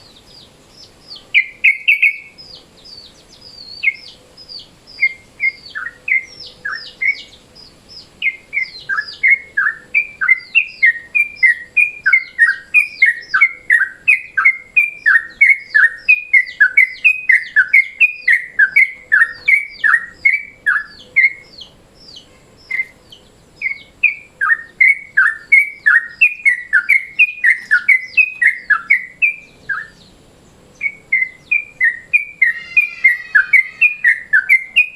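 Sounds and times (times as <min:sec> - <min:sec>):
bulbul singing: 0:00.0 - 0:34.9.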